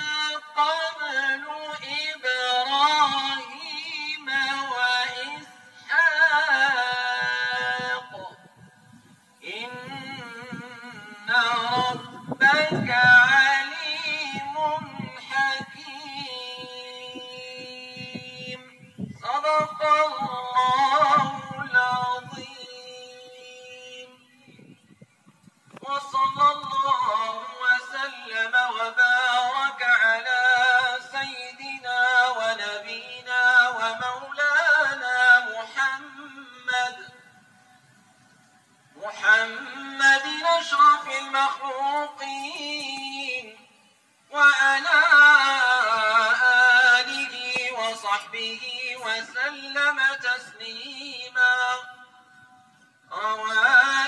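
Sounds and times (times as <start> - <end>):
man chanting recitation: 0.0 - 8.6, 9.4 - 24.7, 25.7 - 37.4, 39.0 - 52.2, 53.1 - 54.0.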